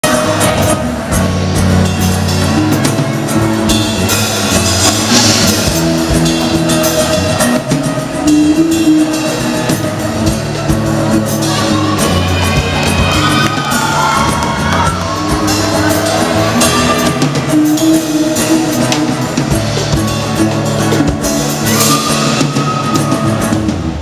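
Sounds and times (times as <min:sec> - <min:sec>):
band playing instrumental music: 0:00.0 - 0:24.0
low bass notes: 0:00.0 - 0:24.0.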